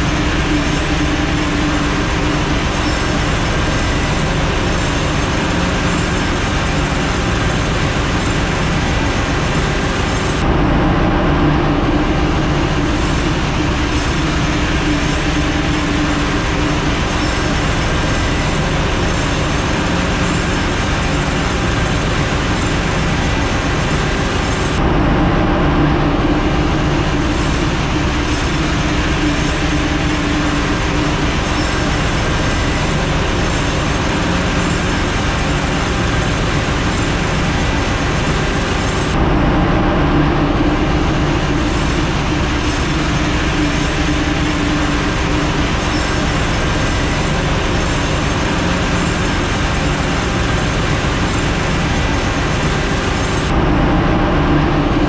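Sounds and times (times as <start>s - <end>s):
engine-room machinery drone: 0.0s - 55.0s.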